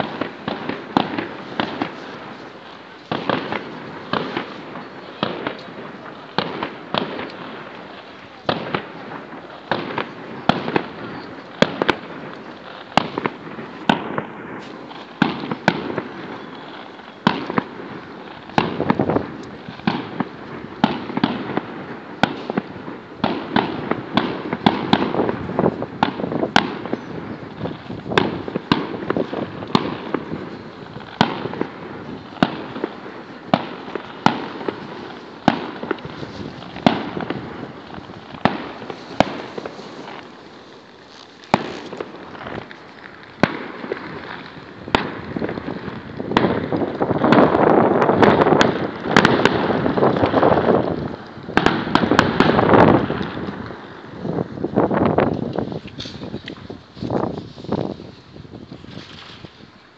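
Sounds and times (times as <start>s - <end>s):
firework shells bursting: 0.0s - 59.8s
fireworks crackle: 0.0s - 59.9s.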